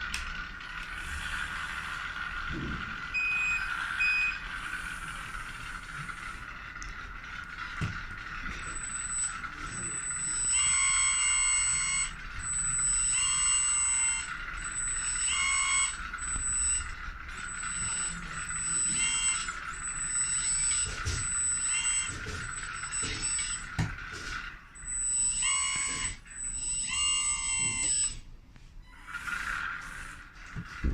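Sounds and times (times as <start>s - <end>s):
electric pump steady whine: 0.0s - 30.9s
higher multi-tone hydraulic whine: 0.0s - 30.9s.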